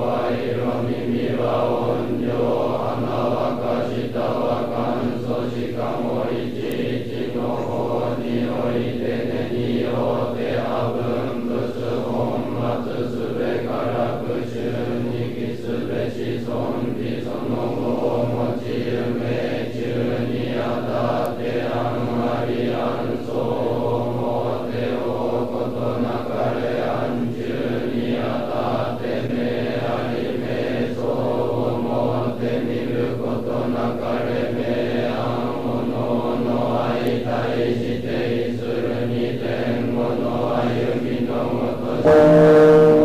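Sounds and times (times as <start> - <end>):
monks chanting in unison: 0.0 - 43.0.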